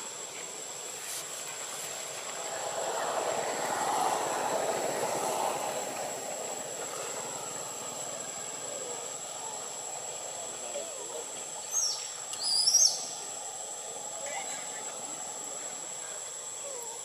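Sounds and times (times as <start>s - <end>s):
broad rushing noise: 0.0s - 16.6s
high insect whine: 0.0s - 17.0s.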